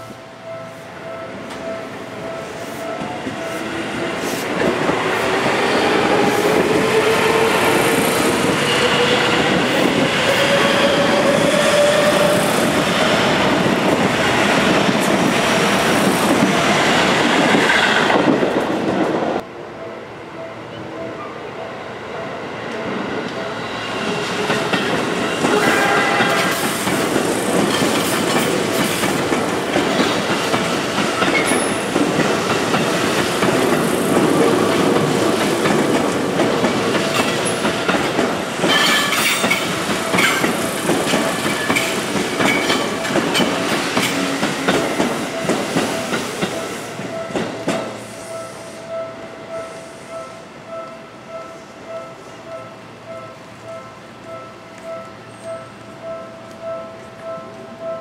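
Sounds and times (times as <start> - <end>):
electric train passing at speed: 0.0 - 58.0.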